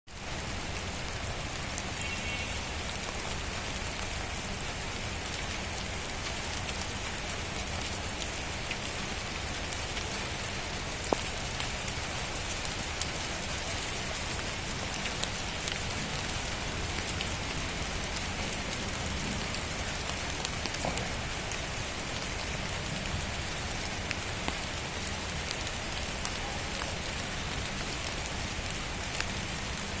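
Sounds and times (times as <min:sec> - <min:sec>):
rain falling: 0:00.1 - 0:30.0
raindrop ticks: 0:05.1 - 0:23.1, 0:23.7 - 0:29.9.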